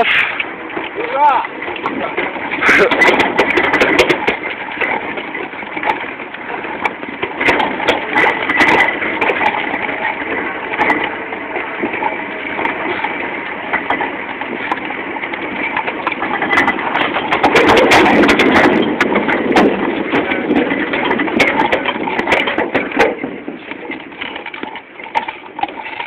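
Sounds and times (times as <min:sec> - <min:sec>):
rattles and knocks: 0:00.0 - 0:26.0
vehicle engine running: 0:00.0 - 0:26.0.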